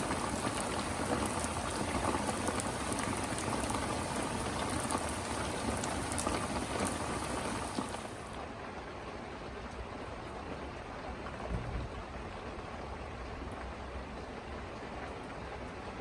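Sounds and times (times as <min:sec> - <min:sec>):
rain drops ticking: 0:00.0 - 0:16.0.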